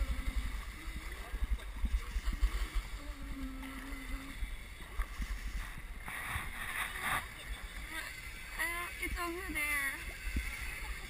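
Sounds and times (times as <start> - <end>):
paddles pulling through water: 0.0 - 11.0
water rushing past hull: 0.0 - 11.0.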